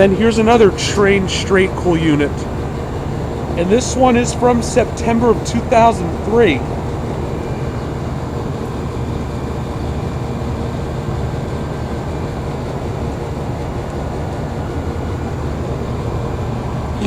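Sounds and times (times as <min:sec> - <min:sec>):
compressor hum: 0:00.0 - 0:17.0
condenser fan rushing: 0:00.0 - 0:17.0
faint constant tone: 0:00.0 - 0:17.0.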